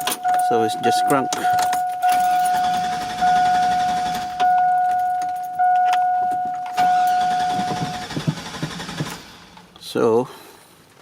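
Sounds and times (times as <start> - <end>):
dashboard warning chime dinging: 0.0 - 9.0.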